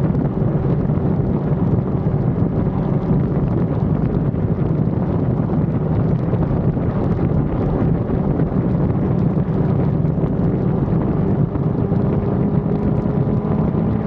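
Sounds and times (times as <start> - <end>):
faint motorcycle engine: 0.0 - 14.0
wind rushing over microphone: 0.0 - 14.0.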